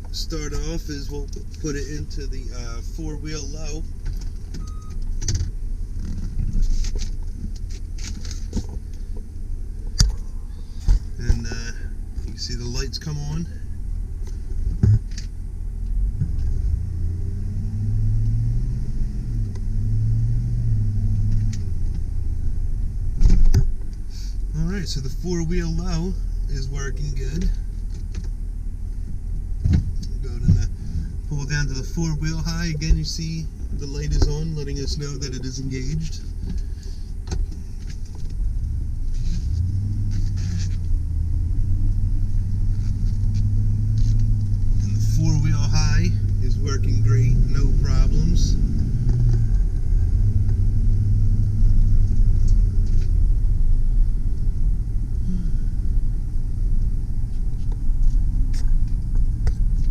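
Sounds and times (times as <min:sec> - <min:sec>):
truck engine pulling: 0:00.0 - 0:59.9.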